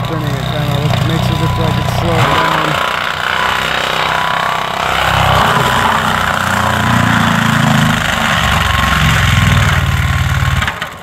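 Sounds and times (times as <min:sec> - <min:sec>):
diesel engine under load: 0:00.0 - 0:11.0
mulching drum grinding: 0:00.0 - 0:11.0.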